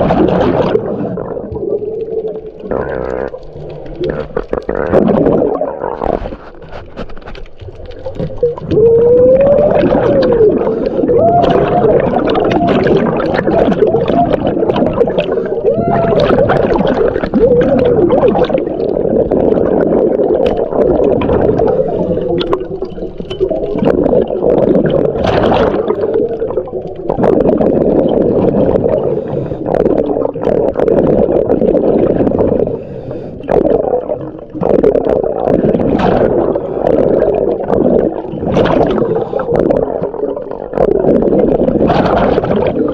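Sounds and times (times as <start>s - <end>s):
underwater water rumble: 0.0s - 42.9s.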